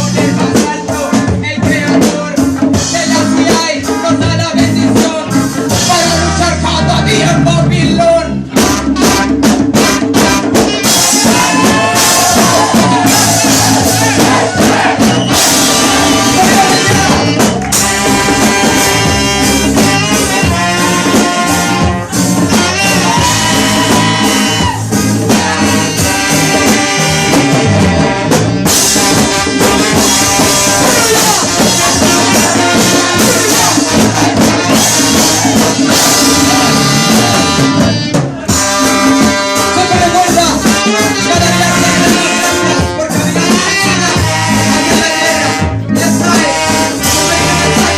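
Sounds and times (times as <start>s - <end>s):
ska music with brass and singing: 0.0s - 47.9s.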